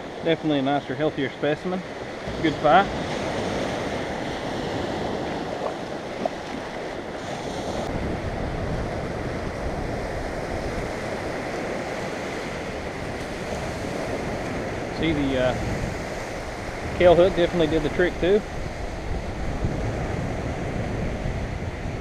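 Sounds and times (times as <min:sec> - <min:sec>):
surf washing onto beach: 0:00.0 - 0:22.0
wind on microphone: 0:01.9 - 0:22.0.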